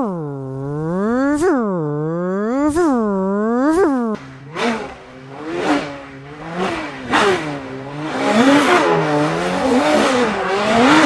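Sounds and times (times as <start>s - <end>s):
person imitating engine revving: 0.0s - 11.0s.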